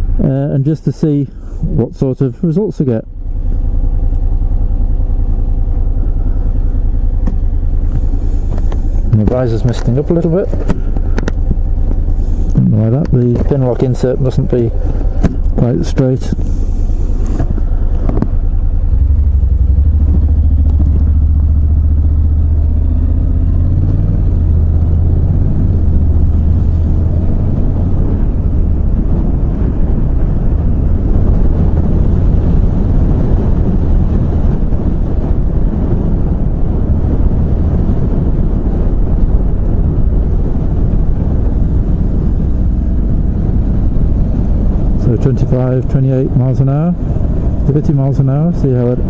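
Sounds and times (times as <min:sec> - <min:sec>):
motorcycle engine: 0:03.0 - 0:49.0
wind rush over helmet: 0:07.4 - 0:21.7, 0:22.3 - 0:49.0.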